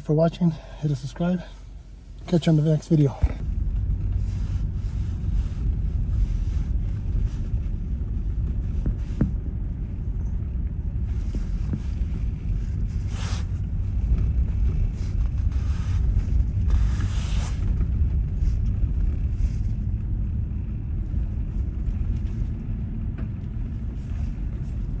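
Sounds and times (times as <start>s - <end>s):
vehicle road and engine rumble: 0.0s - 25.0s.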